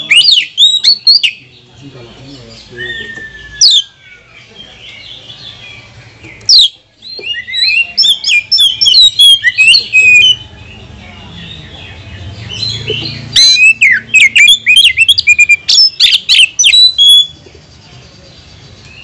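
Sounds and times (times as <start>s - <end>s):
bird singing and chattering: 0.0s - 19.0s.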